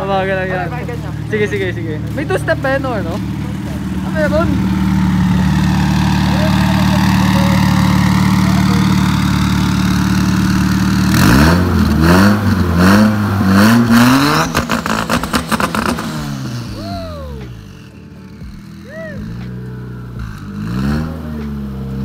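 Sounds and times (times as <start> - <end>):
car engine idling and revving: 0.0 - 22.0
engine popping and crackling: 0.0 - 22.0.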